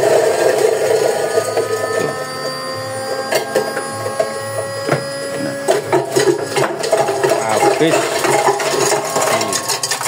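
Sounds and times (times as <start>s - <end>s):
feed chopper motor humming: 0.0s - 10.0s.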